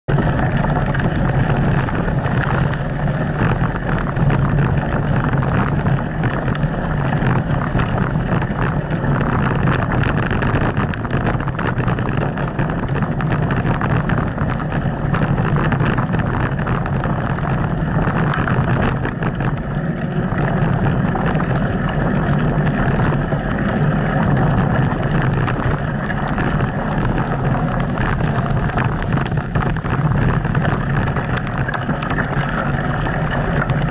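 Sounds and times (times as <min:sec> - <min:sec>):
wind on microphone: 0:00.0 - 0:33.9
bike rattling: 0:00.1 - 0:33.9
tyres rolling through mud: 0:00.1 - 0:33.9.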